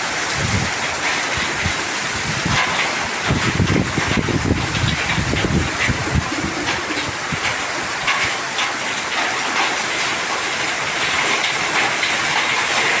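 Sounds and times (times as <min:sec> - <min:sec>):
hailstones clicking on hard surfaces: 0:00.0 - 0:13.0
heavy rain hiss: 0:00.0 - 0:13.0.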